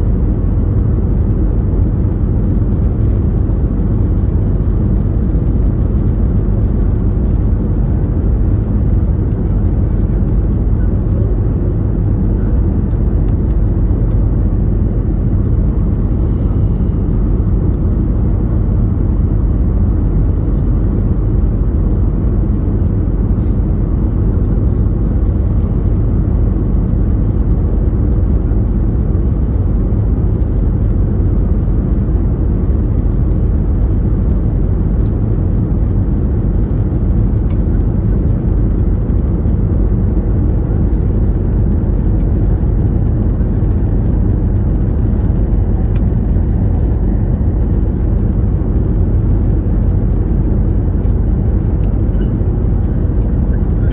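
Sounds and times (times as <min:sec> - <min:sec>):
road vehicle rumble from inside: 0:00.0 - 0:53.9.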